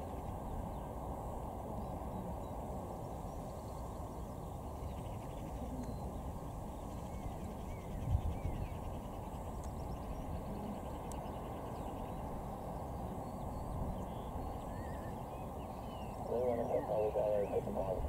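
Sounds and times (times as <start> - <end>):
distant jet airliner rumble: 0.0 - 18.0
small birds chirping: 1.6 - 18.0.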